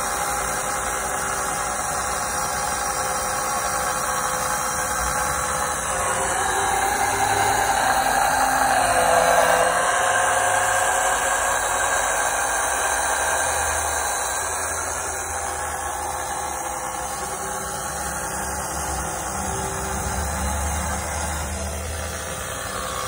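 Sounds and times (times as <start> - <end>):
pump motor humming with hiss: 0.0 - 23.0.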